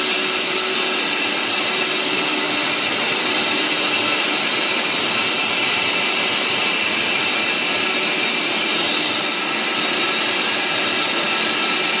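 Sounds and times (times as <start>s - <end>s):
high-pitched machinery hiss: 0.0s - 12.0s.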